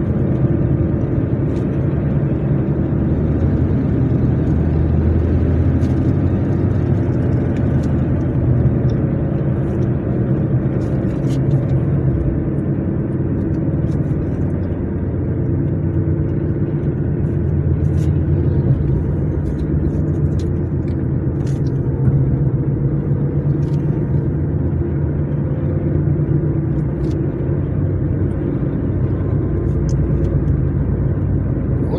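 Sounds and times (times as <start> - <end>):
car engine and tyre noise: 0.0 - 31.9.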